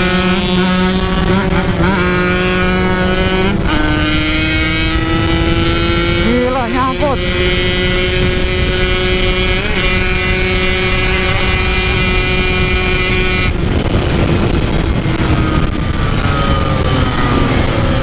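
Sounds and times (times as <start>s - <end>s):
two-stroke motorcycle engine: 0.0s - 18.0s
wind and road noise: 0.0s - 18.0s.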